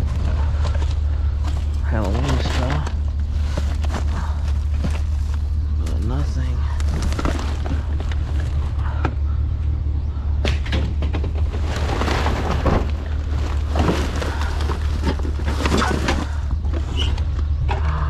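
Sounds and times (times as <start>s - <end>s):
rummaging knocks and clatters: 0.0s - 9.5s, 10.4s - 18.0s
steady low rumble: 0.0s - 18.0s.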